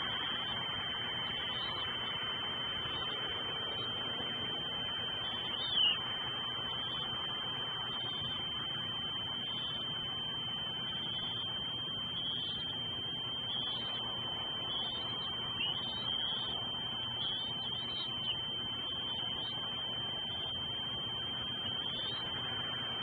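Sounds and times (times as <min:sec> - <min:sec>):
constant hiss: 0:00.0 - 0:23.0
high-pitched whine: 0:00.0 - 0:23.0.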